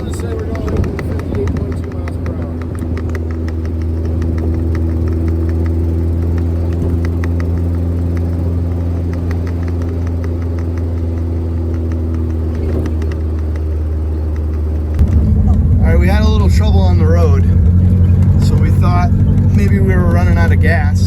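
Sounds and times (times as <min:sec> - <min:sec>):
car engine idling: 0:00.0 - 0:21.0
light regular ticking: 0:00.0 - 0:21.0.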